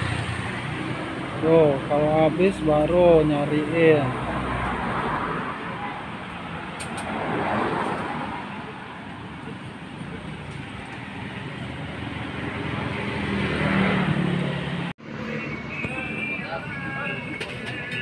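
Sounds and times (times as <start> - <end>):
motor vehicle engine: 0.0 - 5.4, 6.5 - 18.0
passing vehicles: 0.0 - 18.0.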